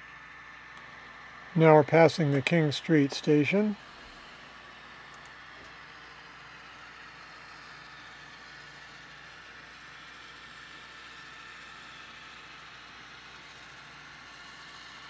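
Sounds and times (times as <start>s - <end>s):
faint model engine drone: 0.0s - 15.0s
model train rolling on track: 0.1s - 15.0s.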